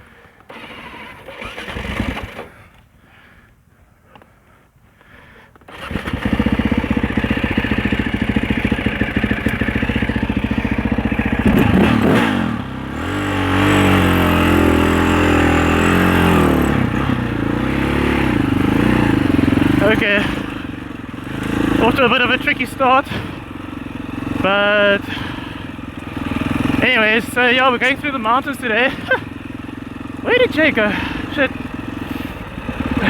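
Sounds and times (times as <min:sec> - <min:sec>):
dirt bike engine starting and revving: 0:00.2 - 0:02.9, 0:05.6 - 0:33.0.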